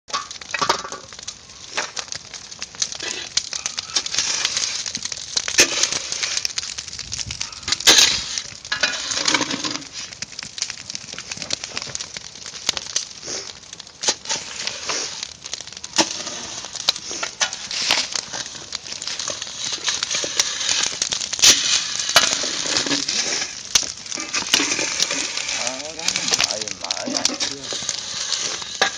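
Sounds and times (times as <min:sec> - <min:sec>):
ore crackling in a pot: 0:00.1 - 0:28.9.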